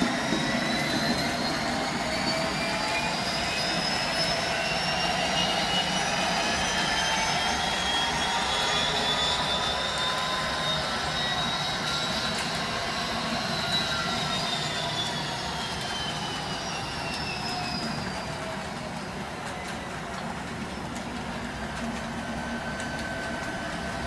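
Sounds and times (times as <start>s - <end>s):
model train rumble: 0.0s - 24.0s
model train whine: 0.0s - 24.0s.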